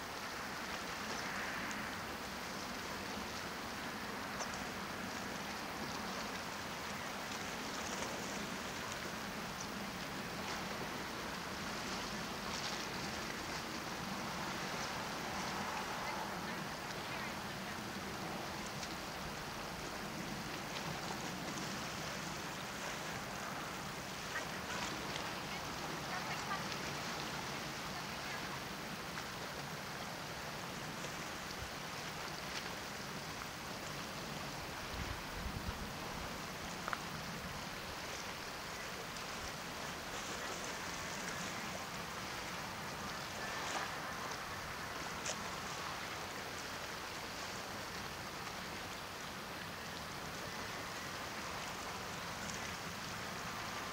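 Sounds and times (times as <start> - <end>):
water lapping against rocks: 0.0 - 53.9.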